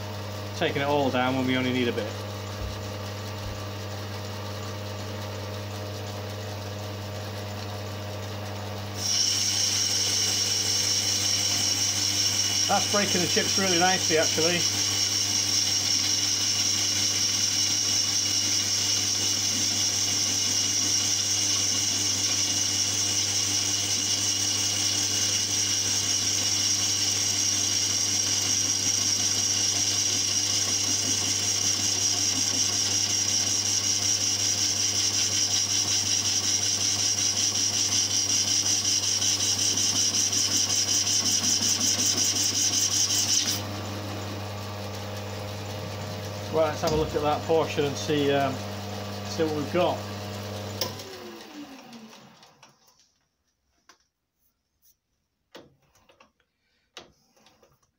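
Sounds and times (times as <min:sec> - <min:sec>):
lathe cutting noise: 0:00.0 - 0:52.5
lathe humming: 0:00.0 - 0:52.5.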